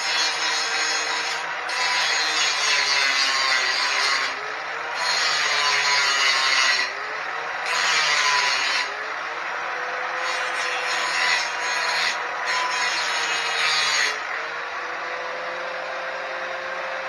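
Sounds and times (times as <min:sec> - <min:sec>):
angle grinder cutting steel: 0:00.0 - 0:16.0.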